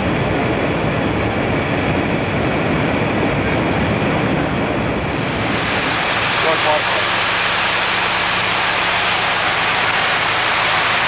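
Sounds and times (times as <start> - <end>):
aircraft in flight: 0.0 - 11.0.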